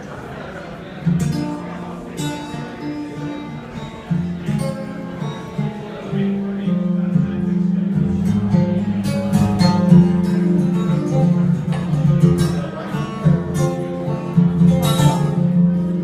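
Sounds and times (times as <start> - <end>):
acoustic guitar played fast: 0.8 - 16.0.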